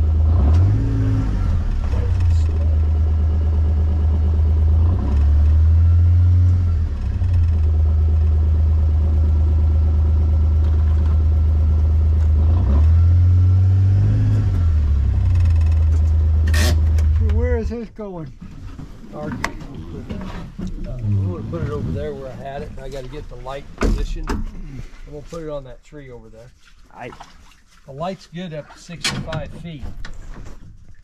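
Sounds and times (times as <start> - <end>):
vehicle engine droning: 0.0 - 25.5.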